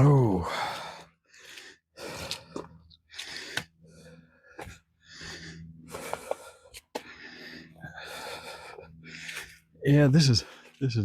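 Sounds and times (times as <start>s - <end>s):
heavy breathing: 0.3s - 9.8s.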